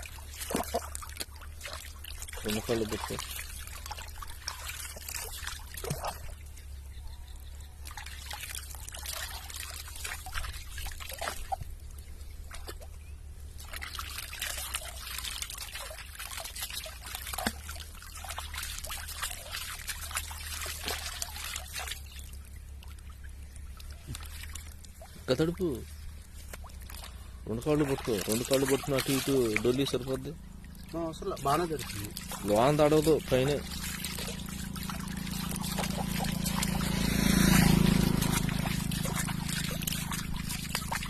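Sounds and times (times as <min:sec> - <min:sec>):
water splashing and dripping: 0:00.0 - 0:41.0.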